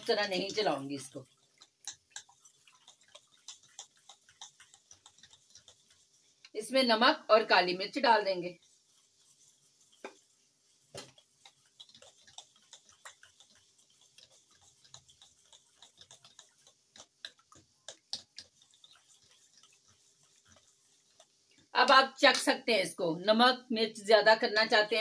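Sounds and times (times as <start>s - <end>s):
whisk tapping metal bowl: 0.0s - 22.8s, 24.4s - 25.0s.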